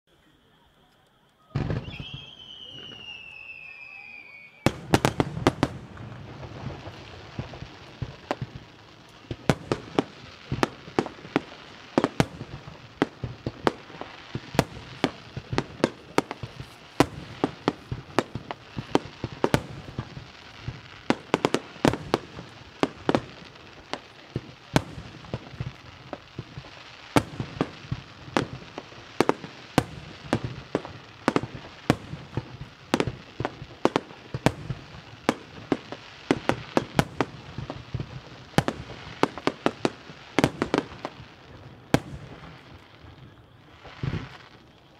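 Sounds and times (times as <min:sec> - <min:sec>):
hiss and crackle: 0:00.1 - 0:44.9.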